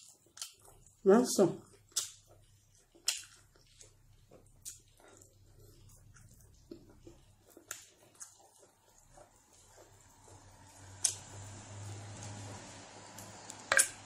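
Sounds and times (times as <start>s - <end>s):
lip smacks and chewing: 0.0s - 14.0s.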